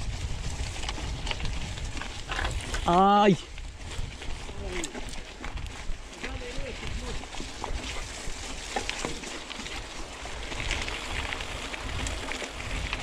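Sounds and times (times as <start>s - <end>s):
bike clicks and rattles: 0.0s - 13.0s
bike tyres on dirt and gravel: 0.0s - 13.0s
wind buffeting microphone: 0.0s - 13.0s.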